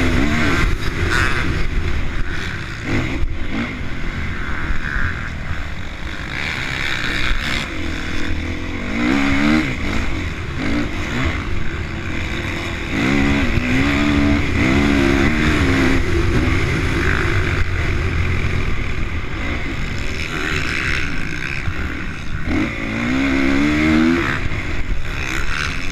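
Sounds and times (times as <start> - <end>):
motocross engine revving: 0.0 - 25.9.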